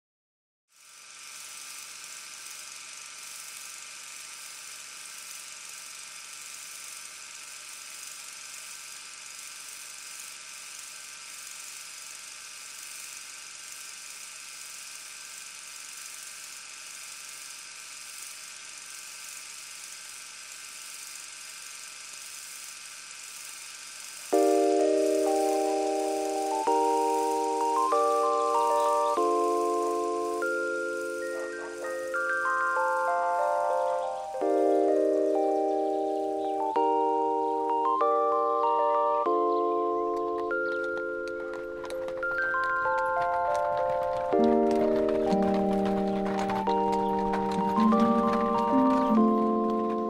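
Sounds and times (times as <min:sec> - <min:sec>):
steady hiss: 0:00.8 - 0:50.0.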